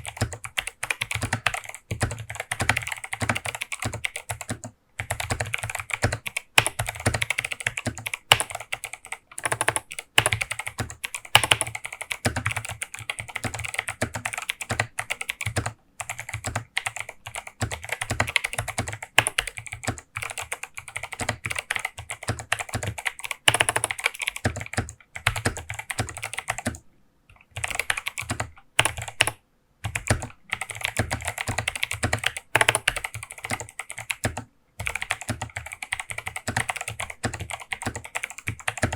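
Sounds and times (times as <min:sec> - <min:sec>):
clicky keyboard typing: 0:00.0 - 0:38.9.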